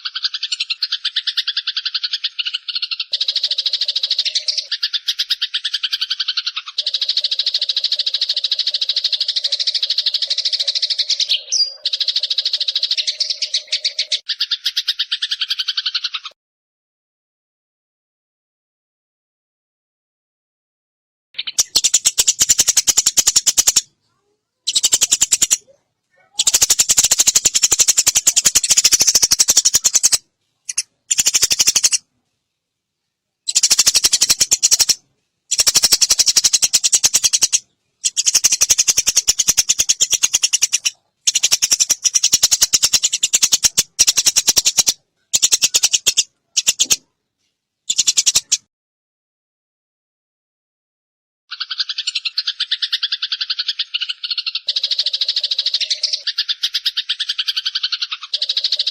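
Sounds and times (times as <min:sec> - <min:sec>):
sparrow rattling chatter calls: 0:00.0 - 0:16.3, 0:21.4 - 0:23.9, 0:24.7 - 0:32.1, 0:33.5 - 0:47.0, 0:47.9 - 0:48.7, 0:51.5 - 0:58.9.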